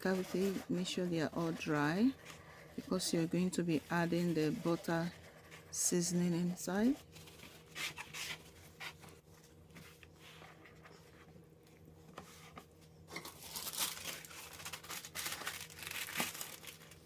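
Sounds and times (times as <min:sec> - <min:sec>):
kitchen paper rustling: 0:00.0 - 0:11.3, 0:12.2 - 0:17.0.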